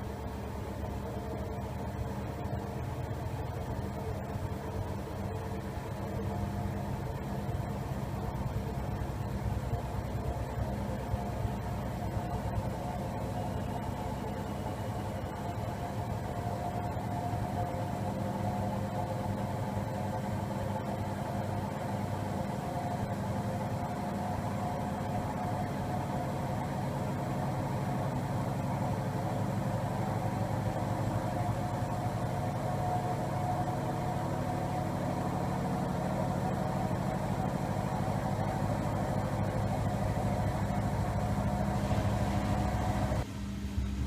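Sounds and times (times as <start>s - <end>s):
washing machine motor whine: 0.0s - 44.0s.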